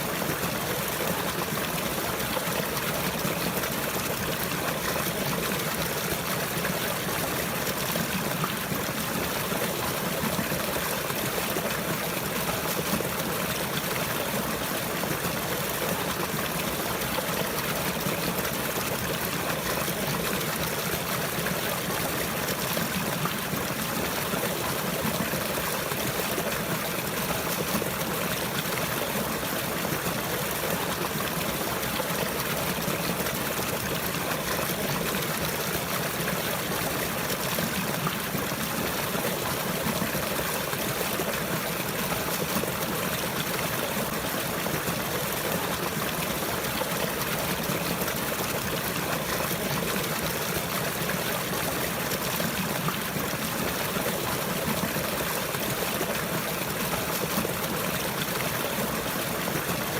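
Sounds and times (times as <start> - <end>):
running water flowing: 0.0 - 59.9.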